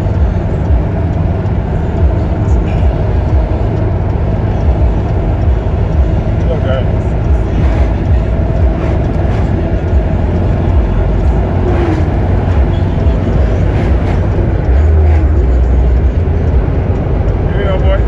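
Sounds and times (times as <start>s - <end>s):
vehicle and road noise: 0.0s - 18.0s.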